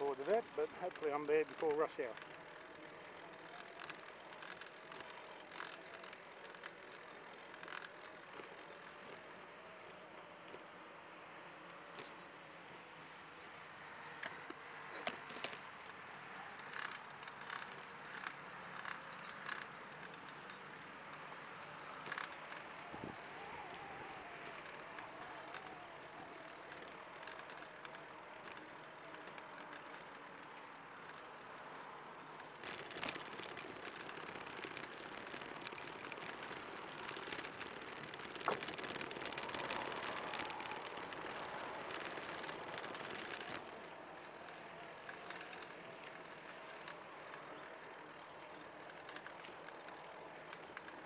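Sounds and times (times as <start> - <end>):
light clicks and ticks: 0.0 - 10.8, 14.2 - 51.0
trike tyres rolling on concrete: 0.0 - 51.0.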